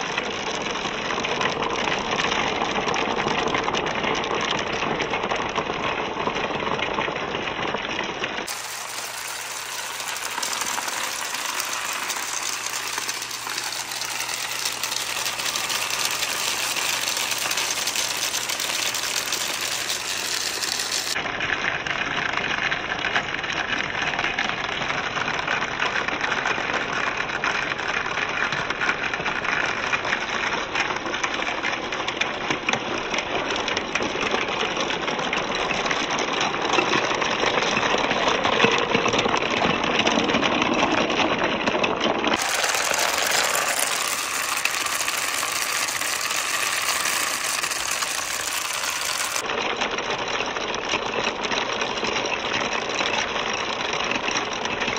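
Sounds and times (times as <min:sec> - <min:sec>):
marbles rattling on wooden track: 0:00.0 - 0:21.2, 0:24.5 - 0:54.9
water running down wooden track: 0:00.0 - 0:54.9.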